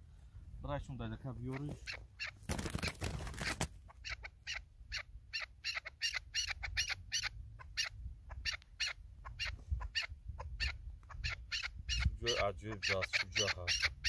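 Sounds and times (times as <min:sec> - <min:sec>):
partridge clucking calls: 0:01.3 - 0:14.0.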